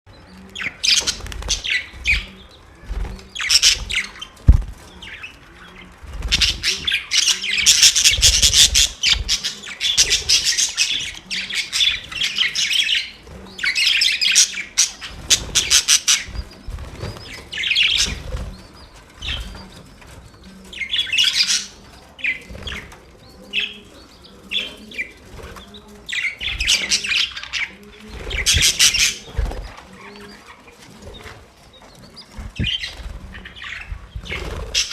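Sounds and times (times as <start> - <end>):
budgerigars chirping and warbling: 0.1 - 34.9.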